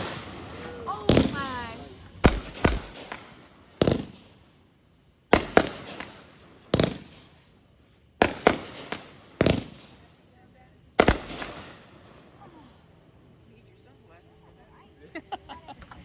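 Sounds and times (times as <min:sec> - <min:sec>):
fireworks bursting with bangs: 0:00.0 - 0:13.0.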